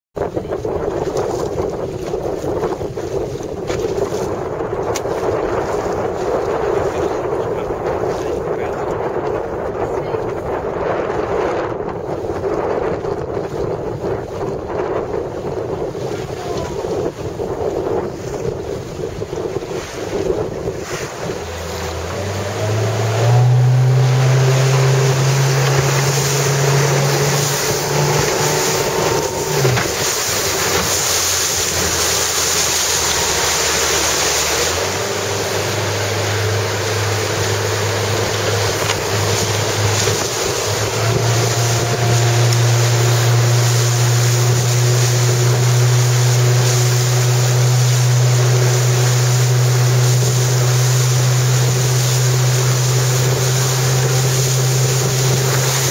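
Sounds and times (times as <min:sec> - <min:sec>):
loud wind: 0:00.1 - 0:55.9
motorboat engine running: 0:00.1 - 0:55.9
water rushing: 0:00.2 - 0:55.9.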